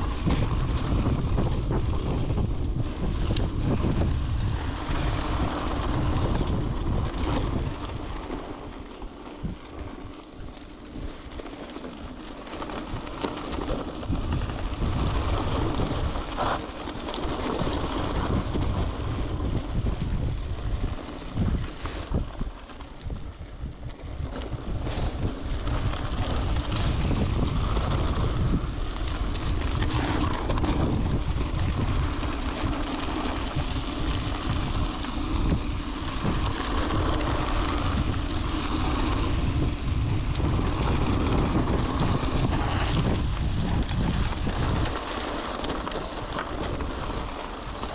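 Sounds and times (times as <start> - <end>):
wind buffeting microphone: 0.0 - 11.6, 12.2 - 47.9
bike rolling noise: 0.0 - 47.9.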